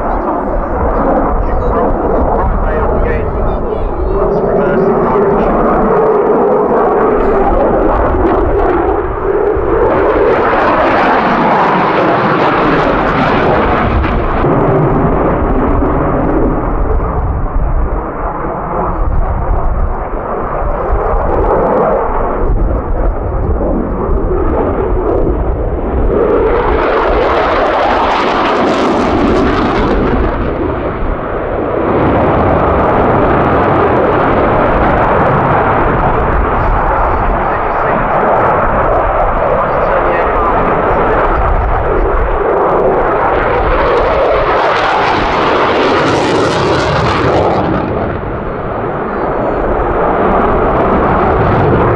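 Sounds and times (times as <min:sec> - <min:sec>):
jet engine roar: 0:00.0 - 0:51.9.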